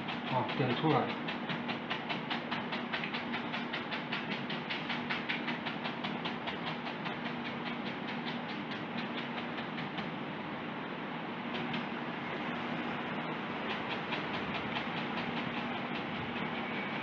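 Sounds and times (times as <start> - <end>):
paintbrush dabbing on canvas: 0.0 - 10.2, 11.5 - 16.6
steady low hum: 0.0 - 17.0.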